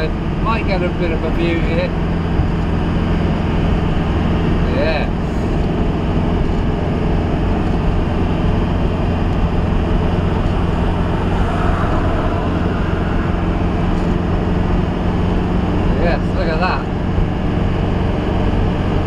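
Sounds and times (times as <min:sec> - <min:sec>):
engine drone and road noise: 0:00.0 - 0:19.0.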